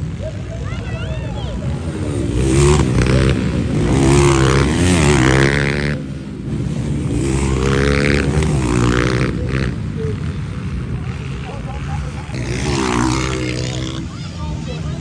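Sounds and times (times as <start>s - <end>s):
motocross bikes racing past: 0.0s - 15.0s.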